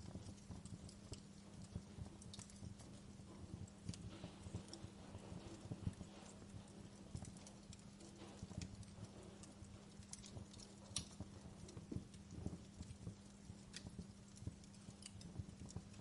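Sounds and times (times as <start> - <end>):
faint low hum: 0.0 - 16.0
wood fire crackling and popping: 0.0 - 16.0.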